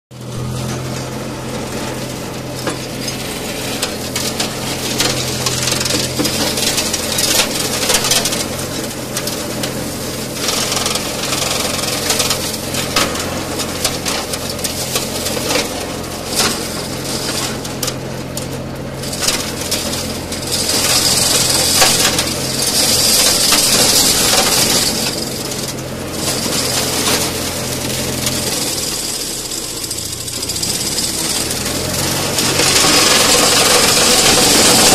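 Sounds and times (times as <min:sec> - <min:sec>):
mulcher shredding brush: 0:00.1 - 0:34.9
tractor engine running: 0:00.1 - 0:34.9.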